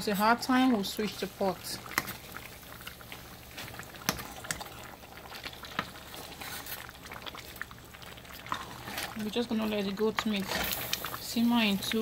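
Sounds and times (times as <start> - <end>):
thick soup simmering and bubbling: 0.0 - 12.0.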